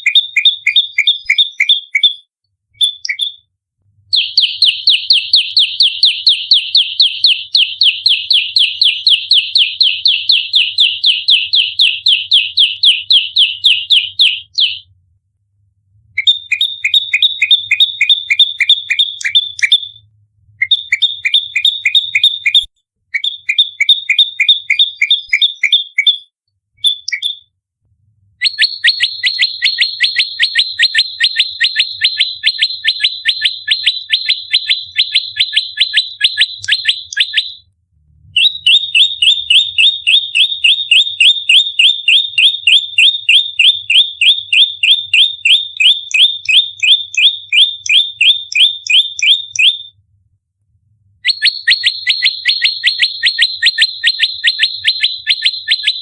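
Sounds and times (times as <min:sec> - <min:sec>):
bird giving sharp high chirps: 0:00.0 - 0:03.4, 0:04.2 - 0:14.8, 0:16.2 - 0:20.0, 0:20.6 - 0:27.4, 0:28.4 - 0:37.6, 0:38.4 - 0:49.9, 0:51.2 - 0:56.0.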